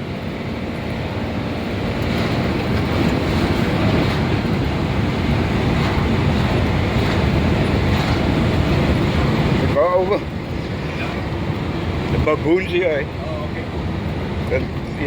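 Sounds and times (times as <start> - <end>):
diesel truck engine rumble: 0.0 - 15.0
road and wind noise: 0.0 - 15.0.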